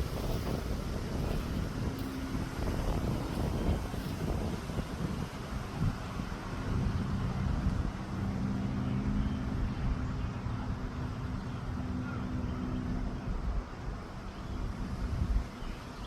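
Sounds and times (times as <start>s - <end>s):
low mechanical hum: 0.0s - 16.0s
rushing wind: 0.0s - 16.0s.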